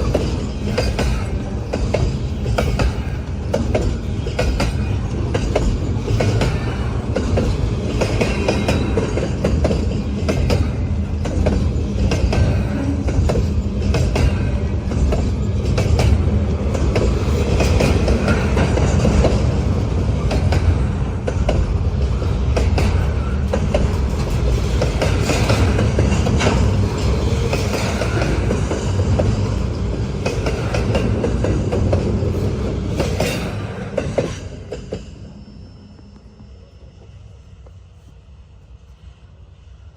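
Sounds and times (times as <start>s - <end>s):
freight train wheels clicking: 0.0s - 35.3s
train rumble: 0.0s - 39.9s.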